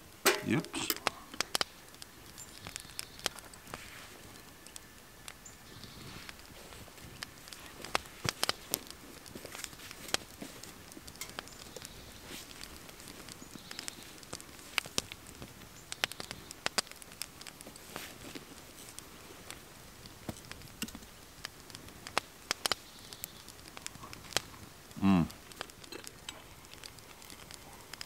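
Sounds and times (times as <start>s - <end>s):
fire crackling in stove: 0.0s - 28.0s.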